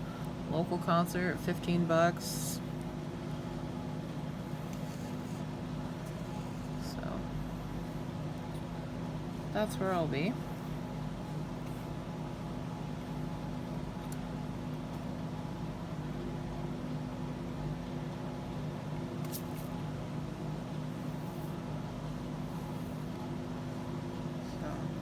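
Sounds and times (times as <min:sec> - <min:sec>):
whole-house fan humming: 0:00.0 - 0:25.0.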